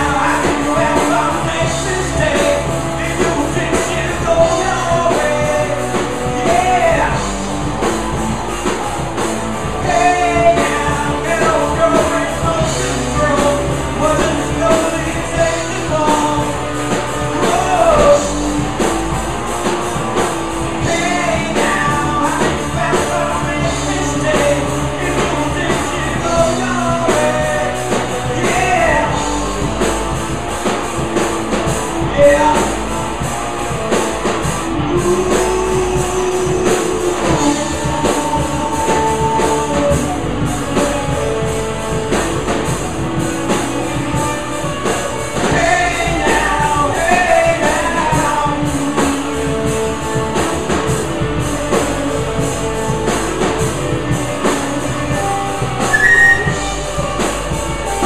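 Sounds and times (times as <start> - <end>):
bass guitar: 0.0 - 58.0
drum kit: 0.0 - 58.0
electric guitars: 0.0 - 58.0.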